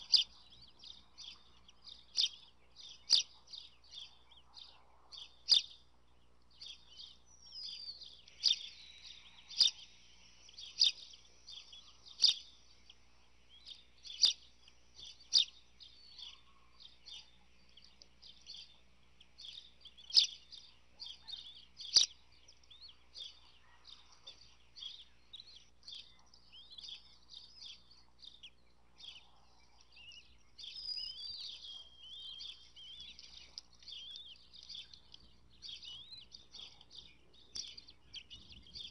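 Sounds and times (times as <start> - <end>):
eaglet chicks peeping: 0.0 - 5.9, 6.6 - 38.9.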